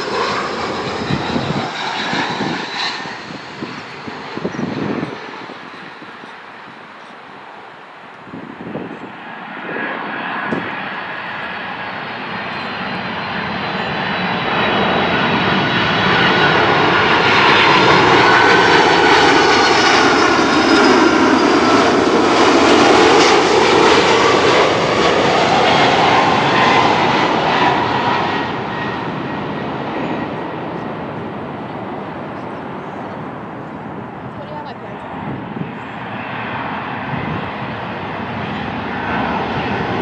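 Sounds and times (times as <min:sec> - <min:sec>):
jet whine sliding down in pitch: 0:00.0 - 0:07.0, 0:08.1 - 0:34.4
jet engines passing overhead: 0:00.0 - 0:40.0.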